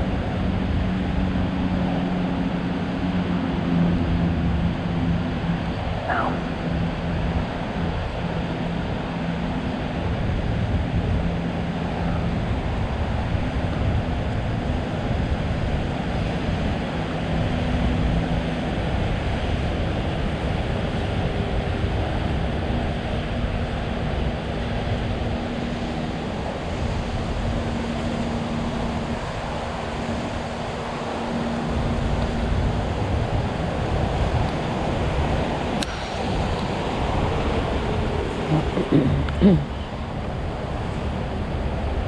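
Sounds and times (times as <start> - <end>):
low engine hums: 0.0 - 42.0
traffic roar: 0.0 - 42.0.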